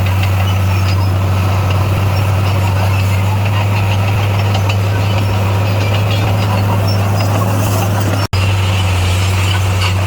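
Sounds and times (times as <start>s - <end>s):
bulldozer diesel engine droning: 0.0s - 10.0s.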